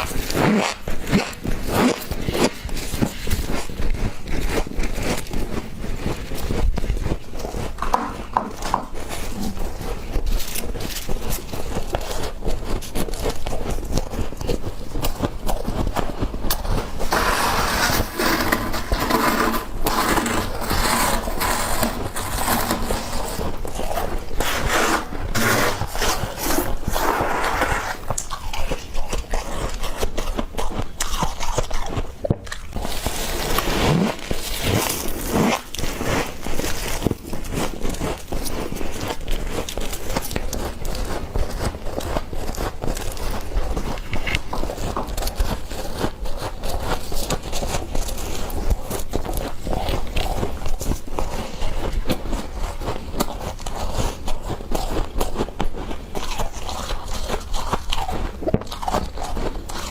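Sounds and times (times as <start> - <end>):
freezer frost scraping: 0.0 - 59.9.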